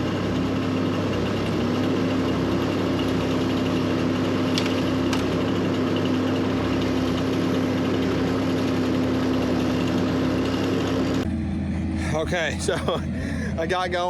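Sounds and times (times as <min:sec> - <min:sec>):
heavy machinery engine humming: 0:00.0 - 0:14.0.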